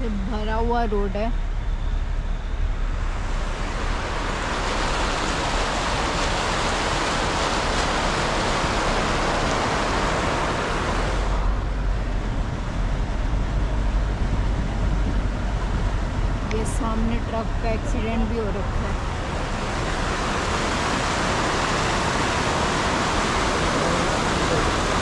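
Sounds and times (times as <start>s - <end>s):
low rumble inside car: 0.0s - 25.0s
floodwater rushing: 2.8s - 25.0s.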